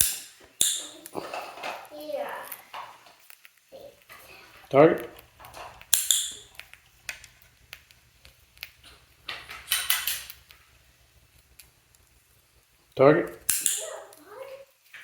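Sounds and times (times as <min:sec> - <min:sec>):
beak and feet tapping: 0:00.0 - 0:14.4.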